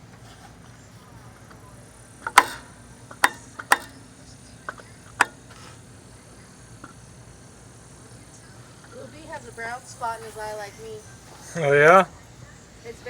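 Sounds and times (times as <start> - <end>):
low steady background: 0.0 - 13.0.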